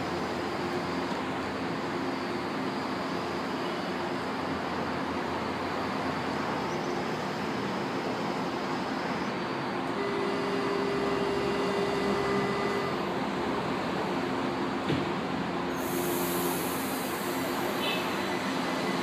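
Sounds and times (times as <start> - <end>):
train hum and hiss: 0.0 - 19.0.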